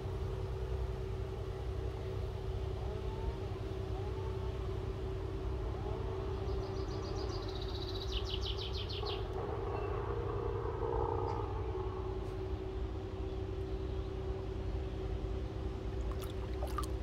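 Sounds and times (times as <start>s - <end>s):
low rumble with faint hum: 0.0s - 17.0s.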